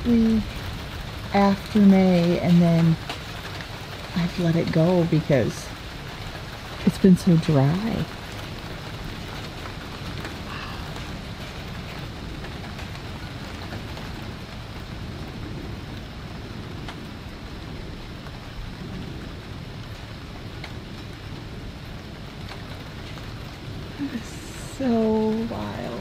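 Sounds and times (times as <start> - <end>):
heavy rain falling: 0.0 - 26.0
raindrop ticks: 0.0 - 26.0
rolling thunder: 0.0 - 26.0.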